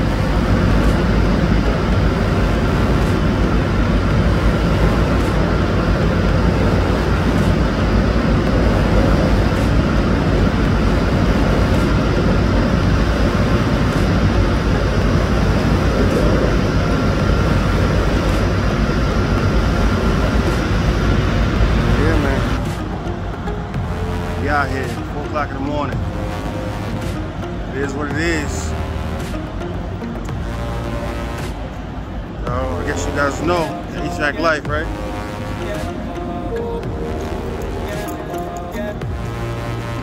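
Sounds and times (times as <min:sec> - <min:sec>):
low hum: 0:00.0 - 0:40.0
machinery droning: 0:00.0 - 0:40.0.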